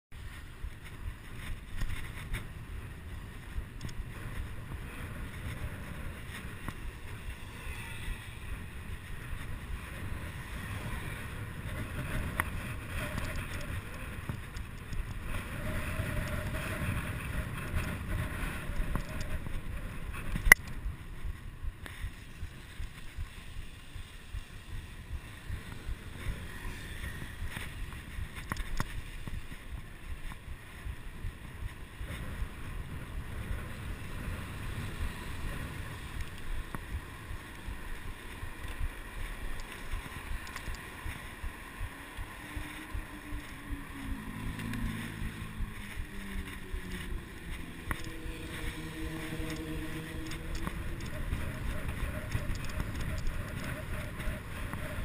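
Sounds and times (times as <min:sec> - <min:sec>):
tyre and road noise: 0:00.1 - 0:55.0
wind rumbling over camera: 0:00.1 - 0:55.0.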